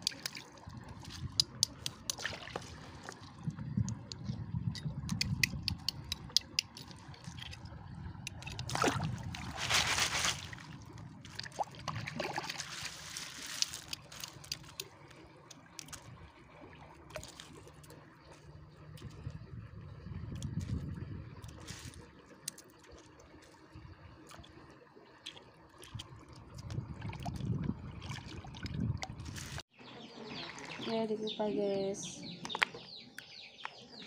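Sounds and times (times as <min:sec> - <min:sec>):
water splashing and trickling: 0:00.0 - 0:32.8.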